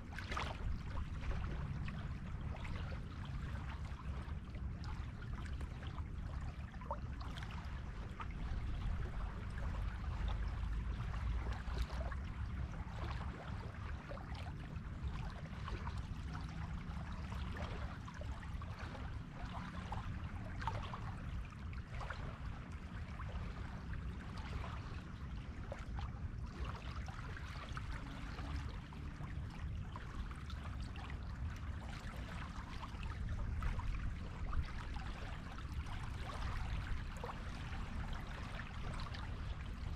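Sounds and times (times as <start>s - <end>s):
waves rumbling: 0.0s - 39.9s.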